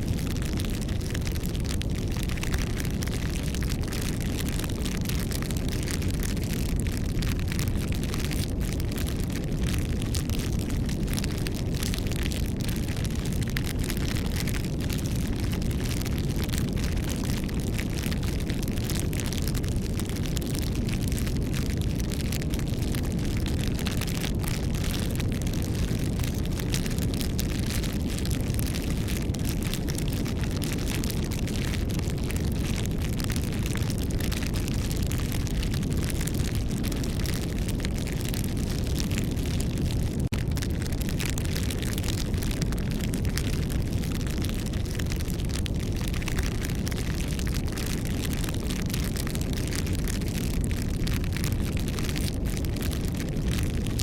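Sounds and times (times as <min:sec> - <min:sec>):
low rumble of flames: 0:00.0 - 0:54.0
wood crackling and popping: 0:00.0 - 0:54.0.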